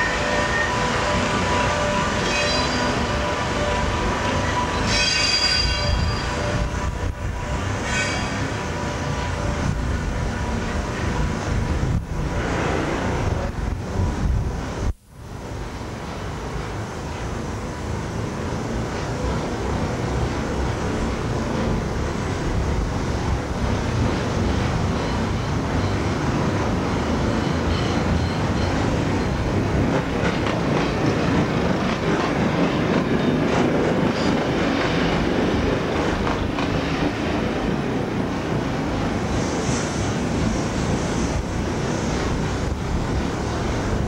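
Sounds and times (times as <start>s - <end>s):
diesel train rumbling past: 0.0s - 44.0s.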